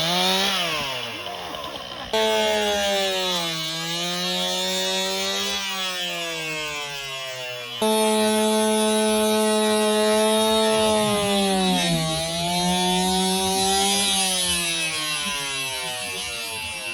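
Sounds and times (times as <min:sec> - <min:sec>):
chainsaw running at high revs: 0:00.0 - 0:16.9.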